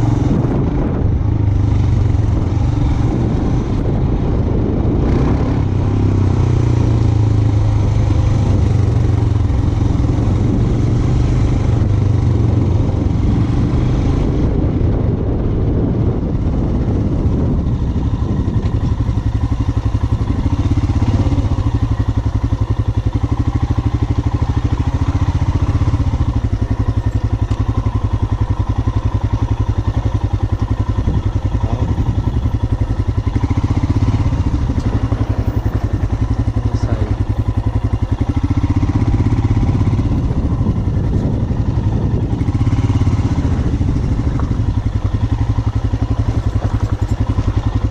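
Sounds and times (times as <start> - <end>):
motorcycle engine at low revs: 0.0 - 47.9.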